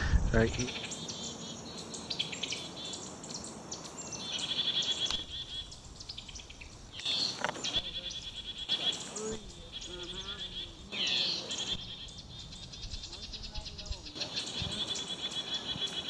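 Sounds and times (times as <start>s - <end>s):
small birds chipping and calling: 0.4s - 16.0s
fast high bird trill: 0.6s - 13.5s, 14.1s - 16.0s.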